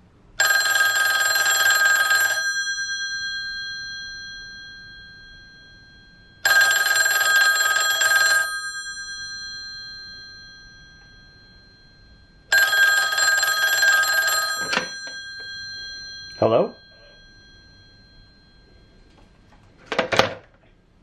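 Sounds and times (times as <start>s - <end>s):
telephone bells ringing: 0.4s - 20.2s.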